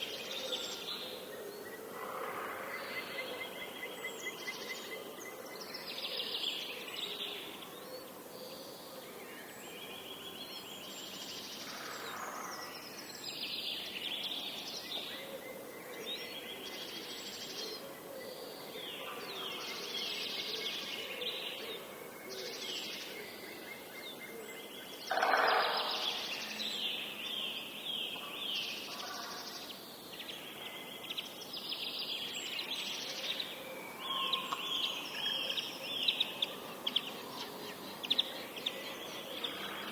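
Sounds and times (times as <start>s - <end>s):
songbirds singing: 0.0s - 39.9s
background hiss: 5.6s - 39.9s.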